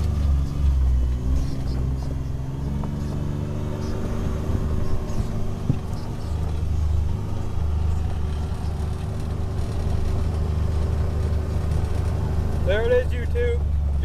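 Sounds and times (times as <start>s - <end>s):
utility vehicle engine droning: 0.0s - 14.0s.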